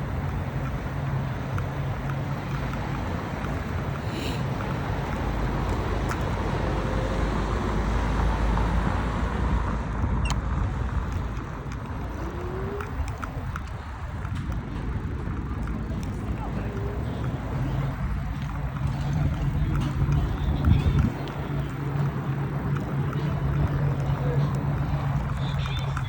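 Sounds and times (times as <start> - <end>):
faint clicks: 0.0 - 8.9, 9.7 - 26.0
bicycle tyres rolling: 0.0 - 26.0
wind buffeting microphone: 0.0 - 26.0.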